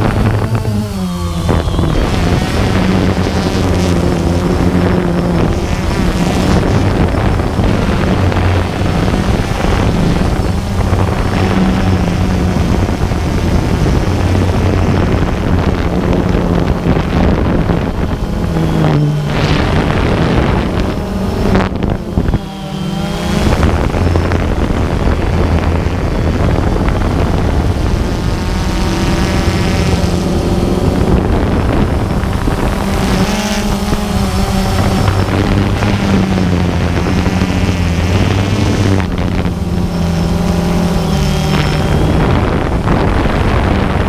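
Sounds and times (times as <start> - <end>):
drone motors humming: 0.0 - 44.0
wind noise on microphone: 0.0 - 44.0.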